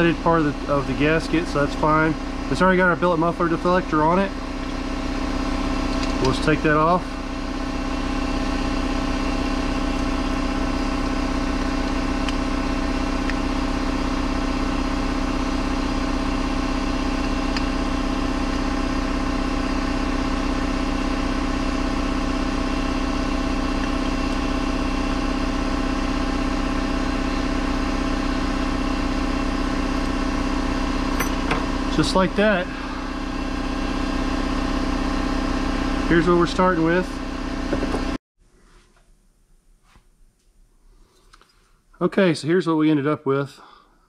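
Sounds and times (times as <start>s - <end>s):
air compressor running: 0.0s - 38.2s.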